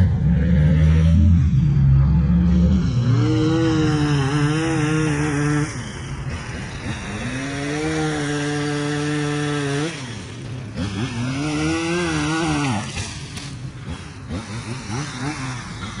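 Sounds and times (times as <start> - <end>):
two-stroke saw engine revving: 0.0 - 16.0.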